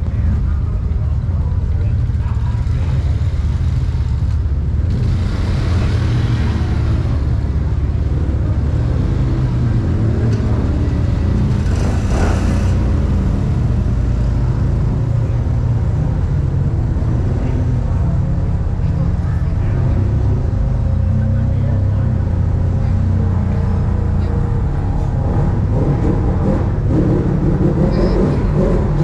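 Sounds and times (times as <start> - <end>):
engine idling with low rumble: 0.0 - 29.0.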